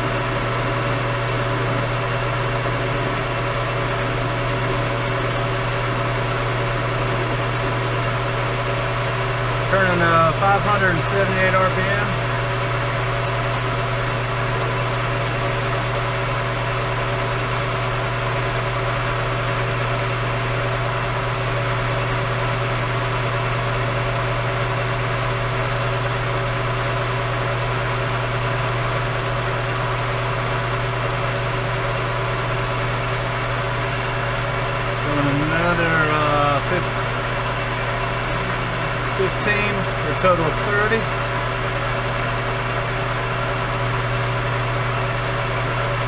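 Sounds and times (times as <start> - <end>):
metal lathe running: 0.0 - 46.0.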